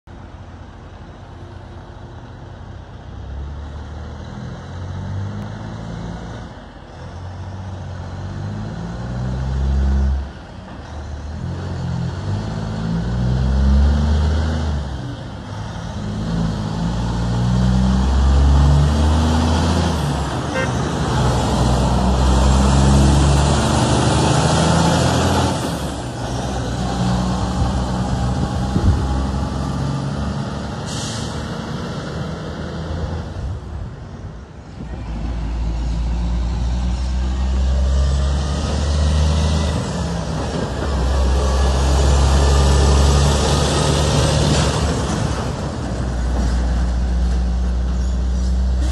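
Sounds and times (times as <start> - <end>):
diesel truck engine shifting gears: 3.2 - 34.2, 34.8 - 48.9.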